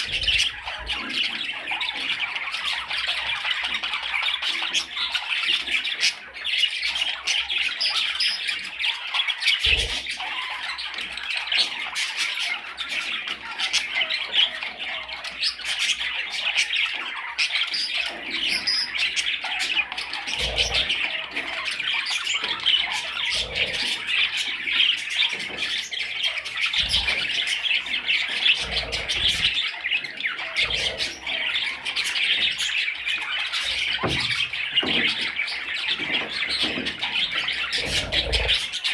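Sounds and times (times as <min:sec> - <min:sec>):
parrots squawking and chattering: 0:00.0 - 0:38.9.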